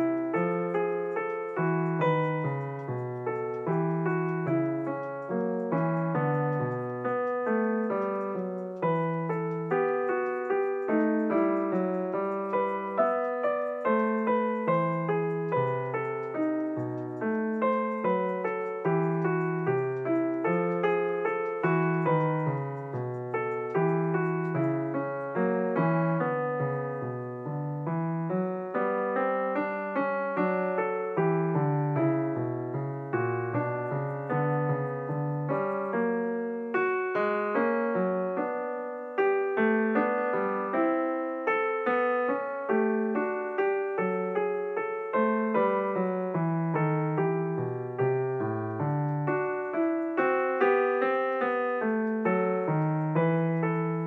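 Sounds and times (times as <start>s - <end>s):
piano notes: 0.0s - 54.0s.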